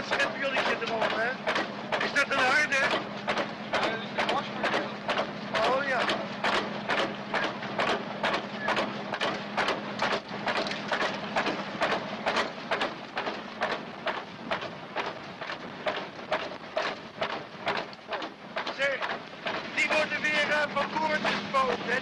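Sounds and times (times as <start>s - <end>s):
rhythmic mechanical knocking: 0.0s - 22.0s
steady low hum: 0.0s - 22.0s.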